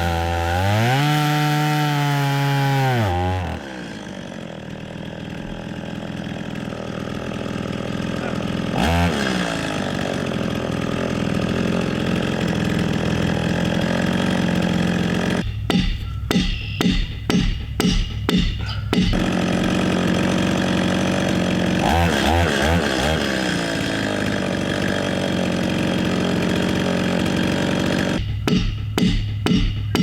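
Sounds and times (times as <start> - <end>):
chainsaw revving and cutting: 0.0 - 15.6, 18.6 - 30.0.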